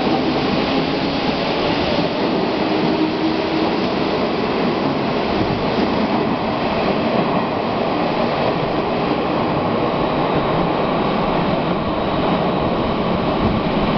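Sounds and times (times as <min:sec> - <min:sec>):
train wheels on rails in tunnel: 0:00.0 - 0:13.9.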